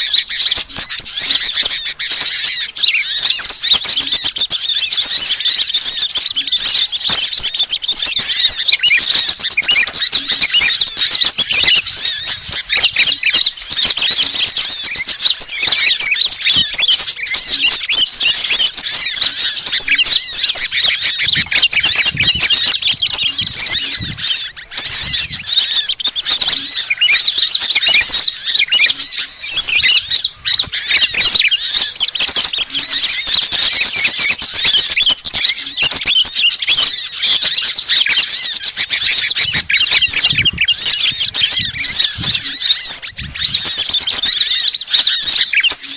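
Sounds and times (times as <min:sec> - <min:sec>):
songbirds chirping and twittering: 0:00.0 - 0:45.9.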